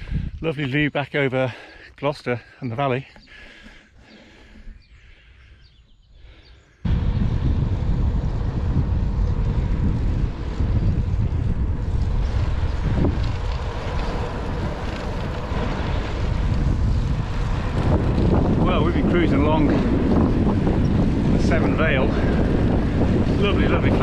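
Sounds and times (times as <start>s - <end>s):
wind buffeting microphone: 0.0s - 0.8s, 3.2s - 24.0s.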